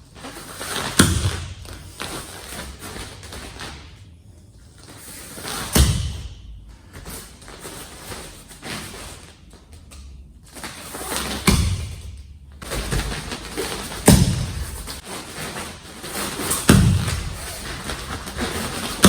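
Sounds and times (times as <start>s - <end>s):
rustling of footwork: 0.0s - 19.0s.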